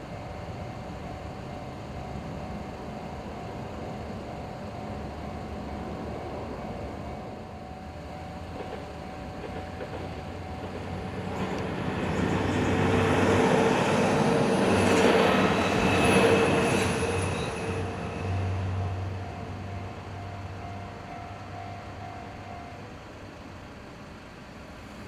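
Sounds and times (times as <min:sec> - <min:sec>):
diesel train passing: 0:00.0 - 0:25.0.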